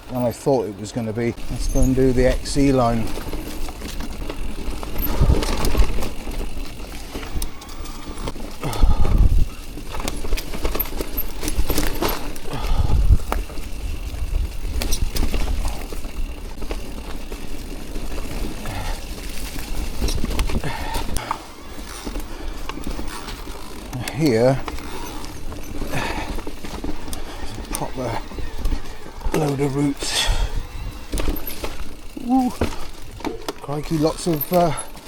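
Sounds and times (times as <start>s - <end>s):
bike clattering over bumps: 0.0s - 35.0s.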